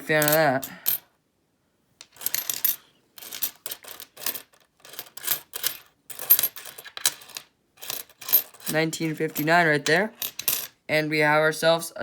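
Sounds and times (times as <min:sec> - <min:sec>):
coins clinking: 0:00.0 - 0:01.0, 0:02.0 - 0:10.8.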